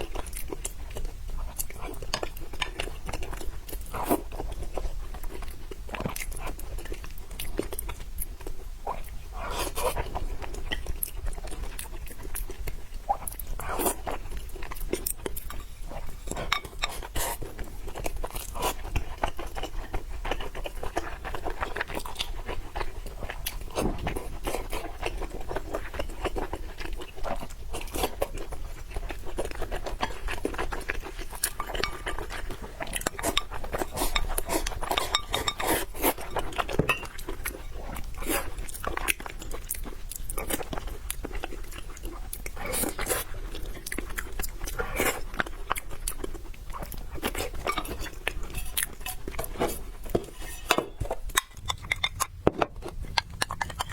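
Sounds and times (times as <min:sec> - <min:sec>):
person chewing and crunching food: 0:00.0 - 0:53.9.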